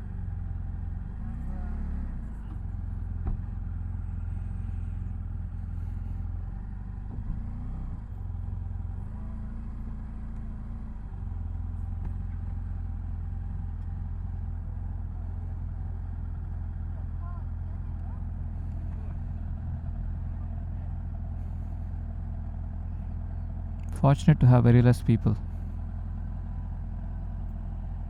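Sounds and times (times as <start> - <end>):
motorcycle engine running: 0.0 - 7.4, 8.0 - 24.0, 25.0 - 28.0.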